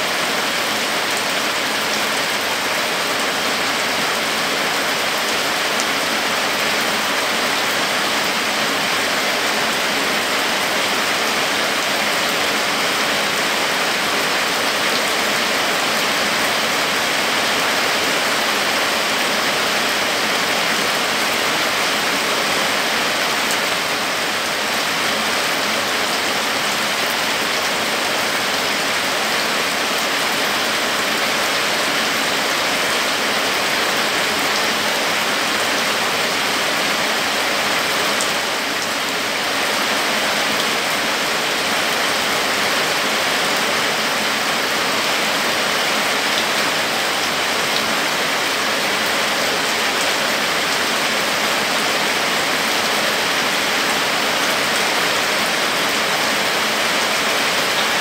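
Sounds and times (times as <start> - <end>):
heavy rain on foliage: 0.0 - 58.0.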